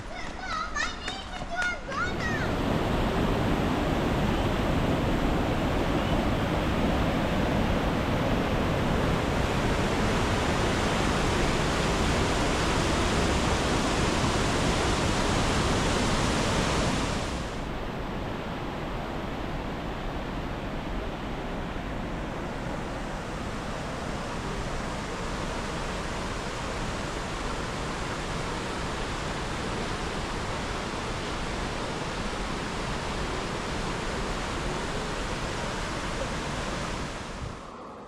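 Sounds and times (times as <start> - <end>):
steady rushing noise: 1.8 - 38.0.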